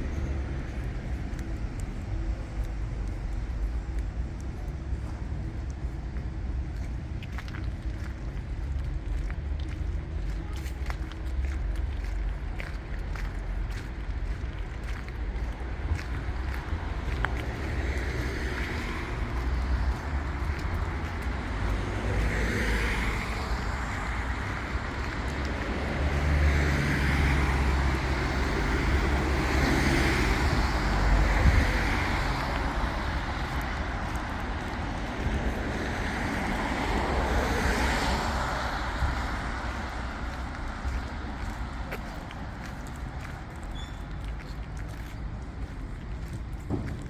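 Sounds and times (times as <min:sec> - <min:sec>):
cars passing by: 0:00.0 - 0:47.0.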